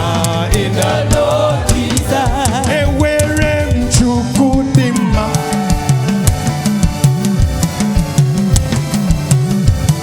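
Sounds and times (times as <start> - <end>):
bass line: 0.0 - 10.0
drum kit beat: 0.0 - 10.0.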